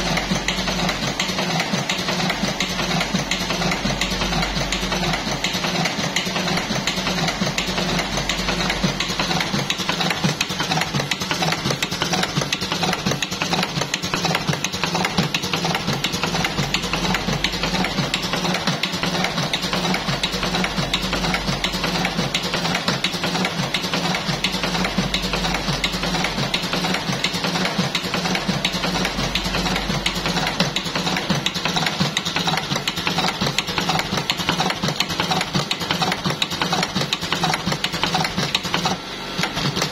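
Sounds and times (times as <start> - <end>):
filling machine clattering: 0.0 - 39.9.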